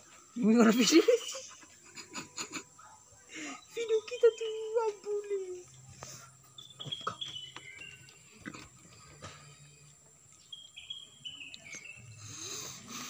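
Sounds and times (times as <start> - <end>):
faint outdoor noise: 0.0 - 13.0.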